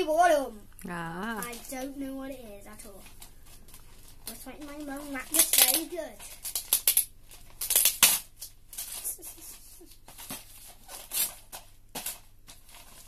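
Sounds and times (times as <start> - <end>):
wrapping paper tearing and rustling: 1.3 - 13.0.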